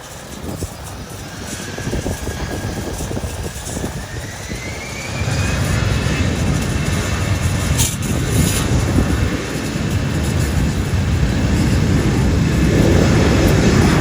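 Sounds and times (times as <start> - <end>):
jet engine whine: 0.0 - 14.0
low rumble: 0.0 - 14.0.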